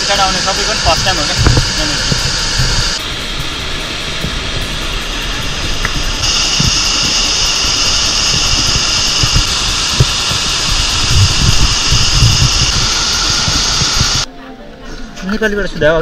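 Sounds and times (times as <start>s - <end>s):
high steady hiss: 0.0s - 14.3s
waterfall roaring: 0.0s - 14.3s
wind buffeting microphone: 0.0s - 14.3s.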